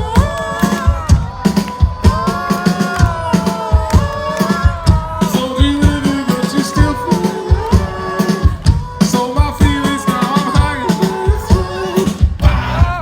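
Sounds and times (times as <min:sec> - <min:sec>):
drum kit rhythm: 0:00.0 - 0:13.0
rock band playing live: 0:00.0 - 0:13.0.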